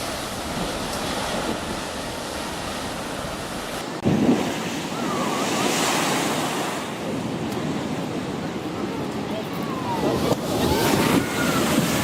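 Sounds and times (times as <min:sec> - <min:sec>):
ocean waves breaking: 0:00.0 - 0:12.0
wind noise on microphone: 0:00.0 - 0:12.0.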